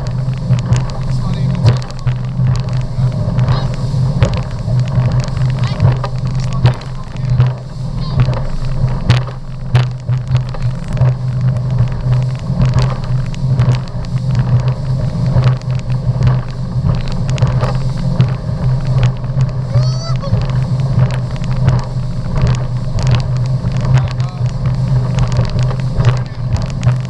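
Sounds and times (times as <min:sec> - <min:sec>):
hull knocks and water splashes: 0:00.0 - 0:27.0
motorboat engine drone: 0:00.0 - 0:27.0.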